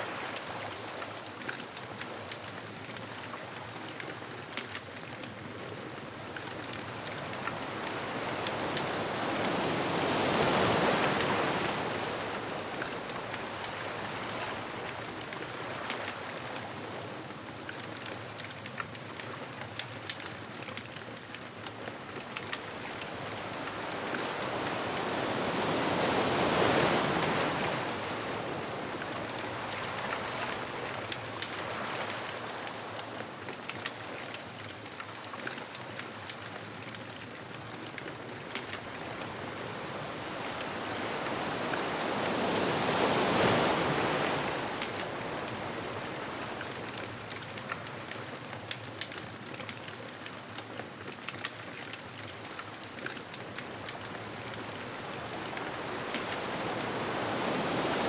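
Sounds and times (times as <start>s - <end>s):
ocean surf washing up beach: 0.0s - 58.0s
bonfire crackling: 0.2s - 58.0s.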